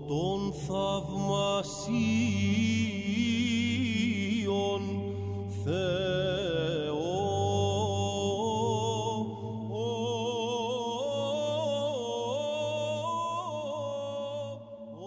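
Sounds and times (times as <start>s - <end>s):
low held vocal drone: 0.0s - 15.0s
ornamented sung chant melody: 0.0s - 15.0s.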